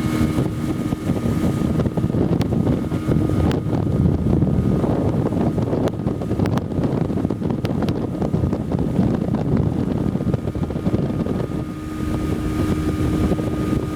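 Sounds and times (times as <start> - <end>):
boat motor droning: 0.0 - 13.9
wind buffeting microphone: 0.0 - 13.9.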